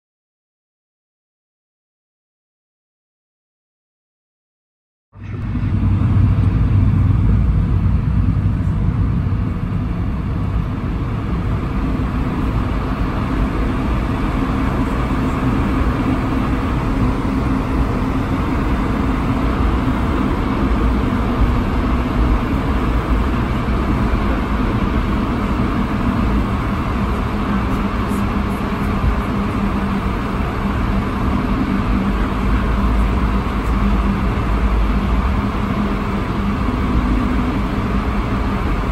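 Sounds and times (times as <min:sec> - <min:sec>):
jet engines low hum: 0:05.2 - 0:38.9.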